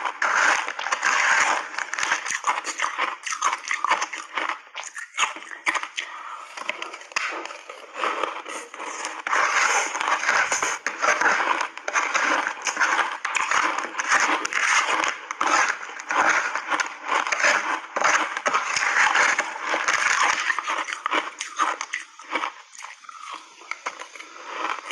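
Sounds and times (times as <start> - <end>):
crunching and chewing ice: 0.0 - 24.9.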